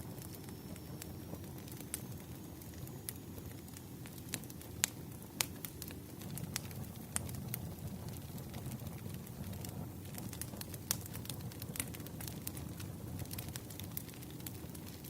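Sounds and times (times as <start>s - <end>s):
flames rumbling: 0.0s - 15.0s
wood fire pops and snaps: 0.0s - 15.0s.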